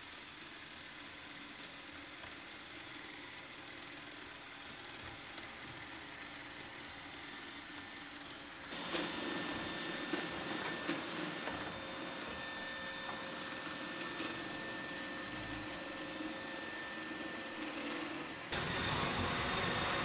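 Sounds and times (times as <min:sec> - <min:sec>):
robot vacuum whirring: 0:00.0 - 0:20.0.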